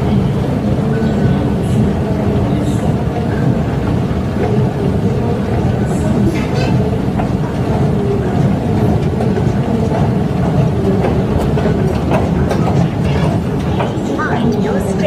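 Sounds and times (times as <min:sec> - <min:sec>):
station machinery rumble: 0:00.0 - 0:15.0.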